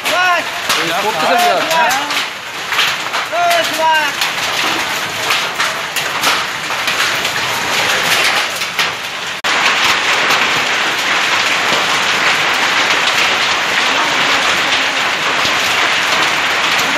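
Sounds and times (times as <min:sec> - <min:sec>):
heavy rain on metal roofs: 0:00.0 - 0:16.9.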